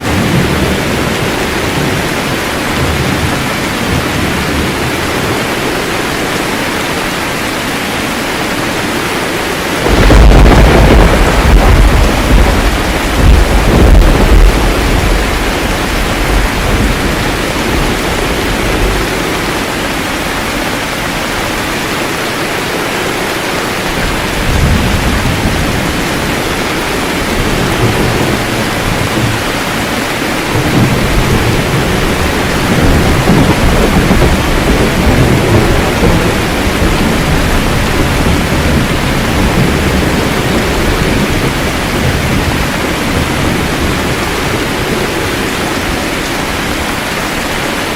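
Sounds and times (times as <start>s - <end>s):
thunder rumbling low: 0.0s - 6.6s, 9.6s - 21.8s, 23.9s - 47.2s
rain hiss: 0.0s - 47.9s.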